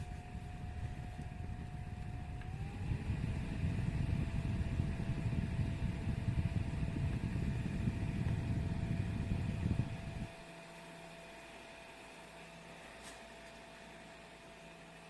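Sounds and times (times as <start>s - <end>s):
fan airflow buffeting microphone: 0.0s - 15.0s.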